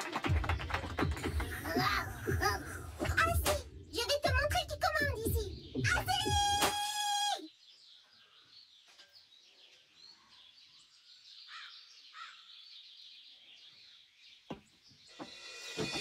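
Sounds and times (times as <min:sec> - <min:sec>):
faint birds chirping: 0:00.6 - 0:16.0.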